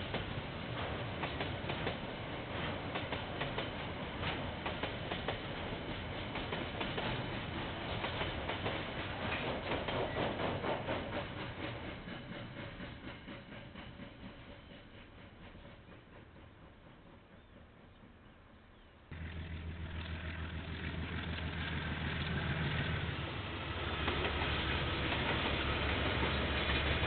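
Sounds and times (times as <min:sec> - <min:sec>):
train wheels clicking over rail joints: 0:00.0 - 0:18.2, 0:21.1 - 0:27.0.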